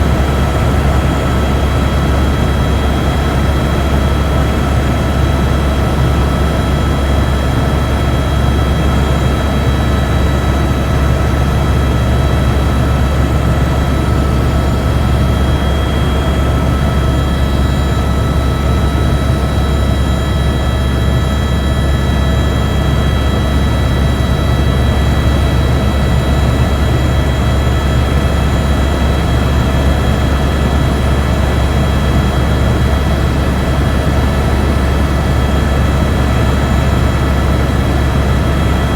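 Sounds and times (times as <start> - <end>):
helicopter cabin drone: 0.0 - 38.9.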